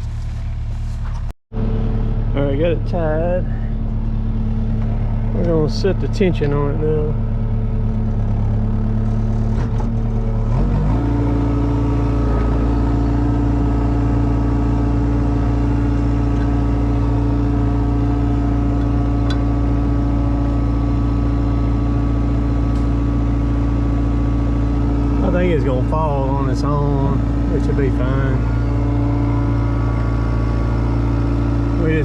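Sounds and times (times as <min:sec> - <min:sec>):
diesel engine revving: 0:00.0 - 0:32.0.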